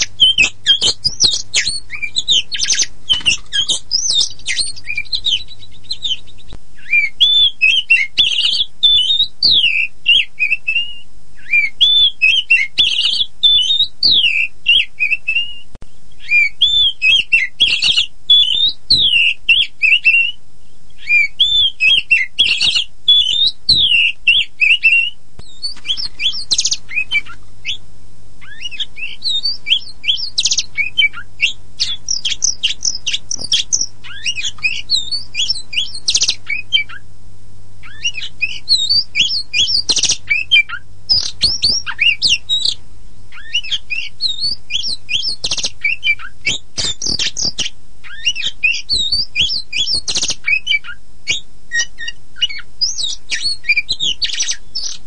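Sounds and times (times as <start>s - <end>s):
bird singing whistles and chirps: 0.0s - 27.8s, 28.4s - 37.1s, 37.8s - 55.0s
faint low hum: 0.0s - 55.0s.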